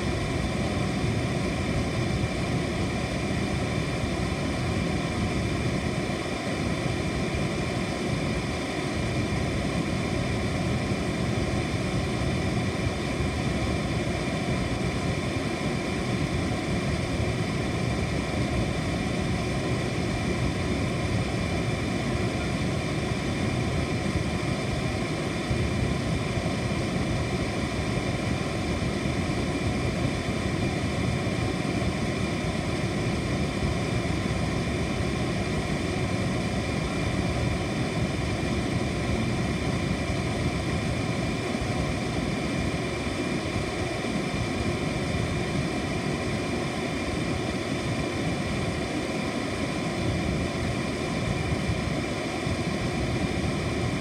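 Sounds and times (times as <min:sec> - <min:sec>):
air conditioner running: 0:00.0 - 0:54.0.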